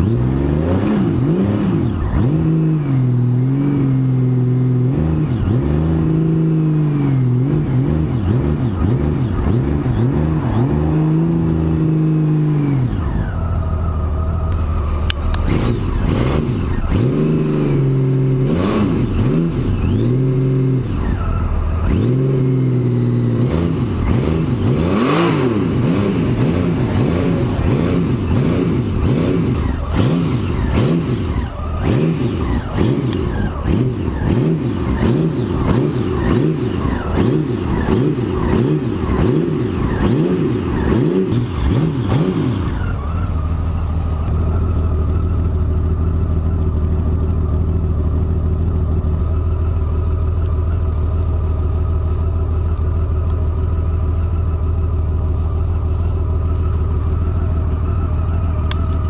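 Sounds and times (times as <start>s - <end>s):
motorcycle engine revving and idling: 0.0s - 59.0s.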